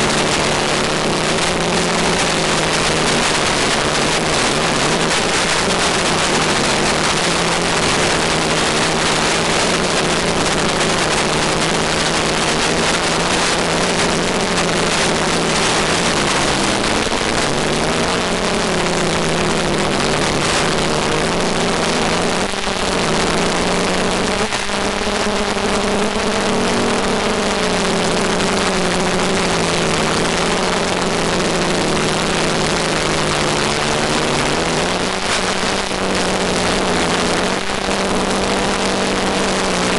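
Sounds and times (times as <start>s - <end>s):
constant hiss: 0.0s - 39.9s
drone propellers buzzing: 0.0s - 39.9s.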